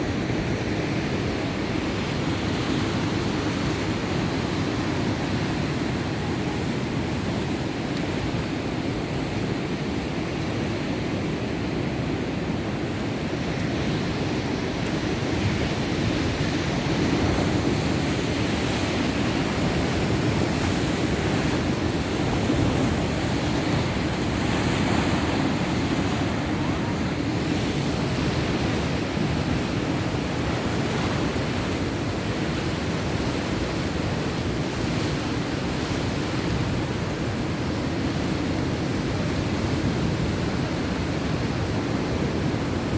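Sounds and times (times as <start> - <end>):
heavy surf breaking waves: 0.0 - 42.9.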